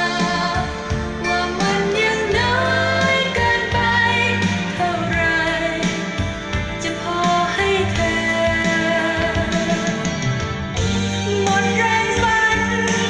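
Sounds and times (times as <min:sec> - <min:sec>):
song over loudspeakers: 0:00.0 - 0:13.0.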